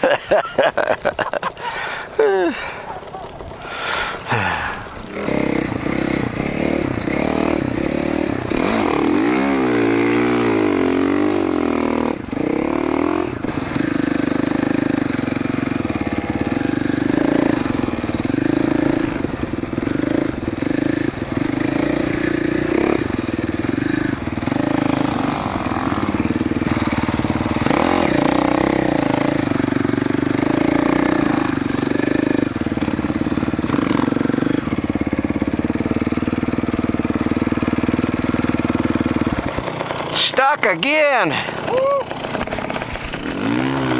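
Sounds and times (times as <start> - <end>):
dirt bike engine revving: 3.7 - 43.9.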